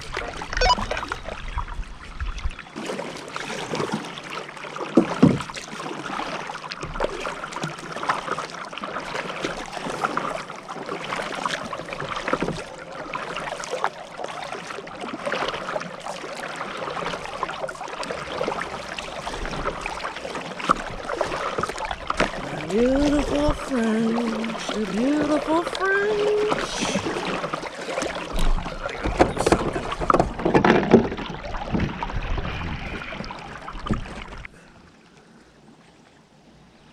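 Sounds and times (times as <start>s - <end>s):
water splashing and dripping: 0.0s - 34.6s
kayak paddle dipping into water: 0.0s - 36.2s.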